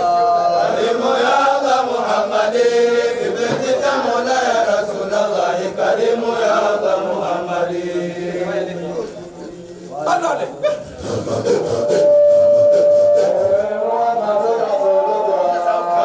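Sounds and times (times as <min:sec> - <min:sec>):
voices chanting: 0:00.0 - 0:16.0.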